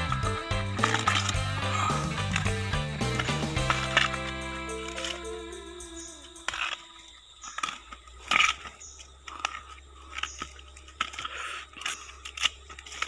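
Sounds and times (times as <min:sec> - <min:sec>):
bamboo sheaths crunching and tearing: 0:00.0 - 0:13.0.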